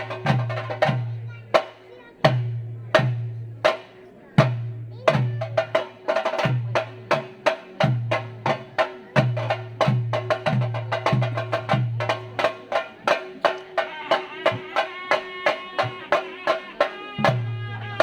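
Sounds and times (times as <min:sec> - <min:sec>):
deep booming drum beats: 0:00.0 - 0:13.8, 0:17.2 - 0:18.0.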